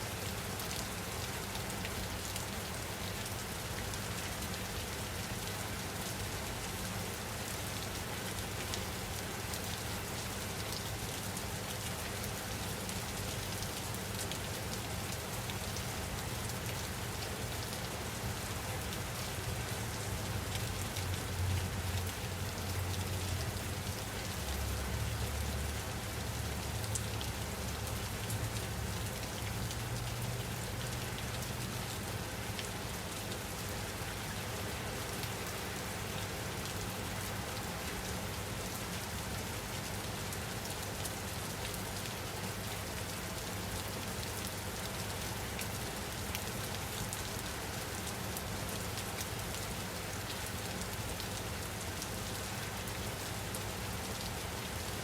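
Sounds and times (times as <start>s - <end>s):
rain pattering: 0.1s - 55.0s.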